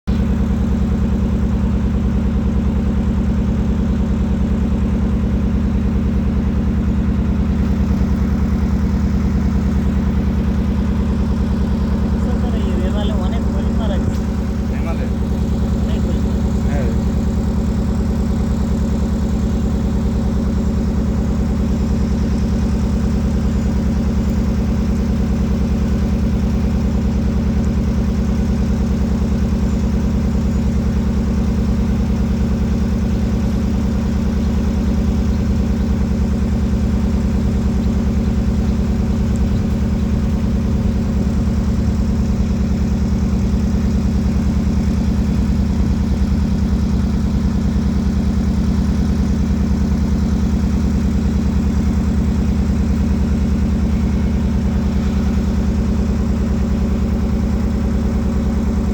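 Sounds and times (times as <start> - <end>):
boat engine droning: 0.1 - 58.9.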